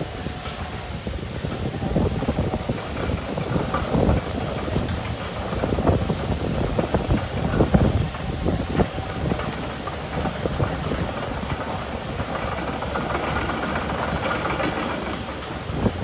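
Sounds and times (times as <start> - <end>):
diesel engine running: 0.0 - 16.0
tracks knocking: 1.4 - 16.0.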